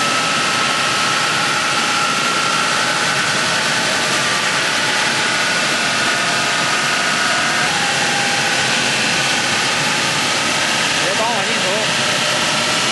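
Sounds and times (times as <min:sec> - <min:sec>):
hammer mill running: 0:00.0 - 0:12.9.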